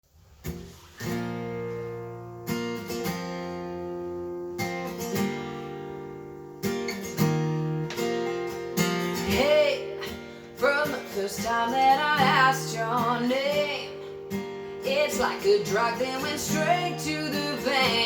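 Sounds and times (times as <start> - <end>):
acoustic guitar strumming chords: 0.4 - 18.0.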